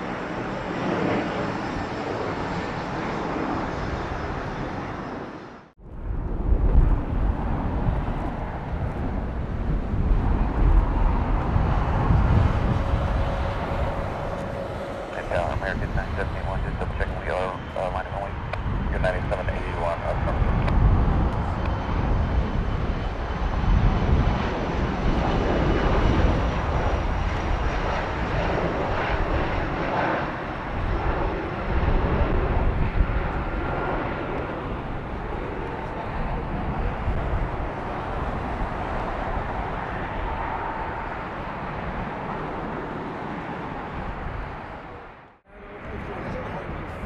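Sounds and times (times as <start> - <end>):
high turbine whine: 0.0 - 47.0
jet engines roaring: 0.0 - 47.0.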